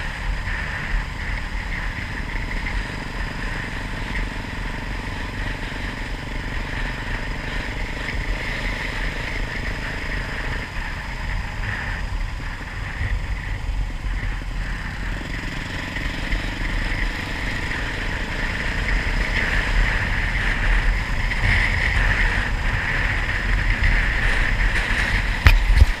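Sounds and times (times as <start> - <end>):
off-road motorcycle engine running: 0.0 - 26.0.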